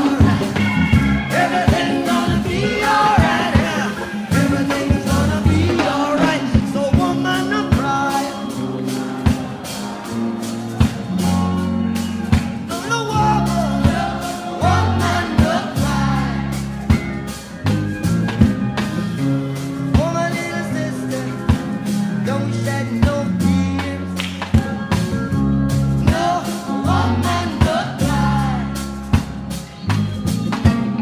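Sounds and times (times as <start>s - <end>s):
bass and drum beat: 0.0s - 31.0s
song with backing vocals: 0.0s - 31.0s.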